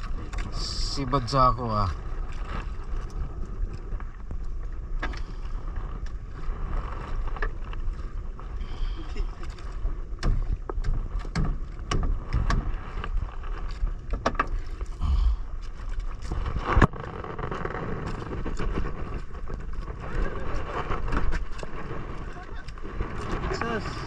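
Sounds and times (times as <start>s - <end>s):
water noise: 0.0s - 24.0s
wind rumbling on microphone: 0.0s - 24.0s.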